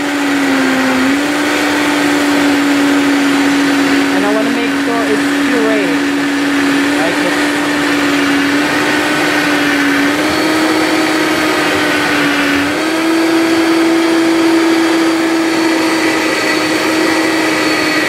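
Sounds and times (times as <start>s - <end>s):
blender motor running: 0.0s - 18.0s.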